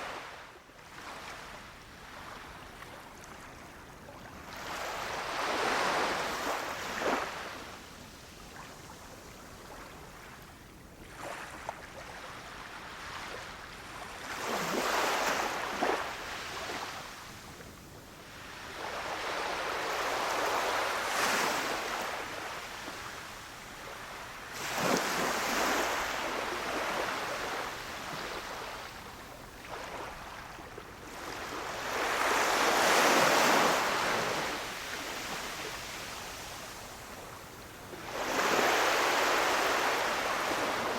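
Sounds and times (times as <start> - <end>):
waves washing on sandy beach: 0.0 - 40.9.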